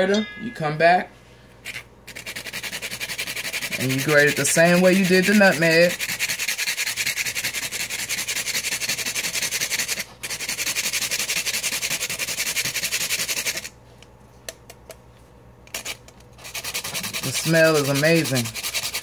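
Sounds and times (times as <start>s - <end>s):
cinnamon stick grating: 1.6s - 13.7s, 15.7s - 19.0s.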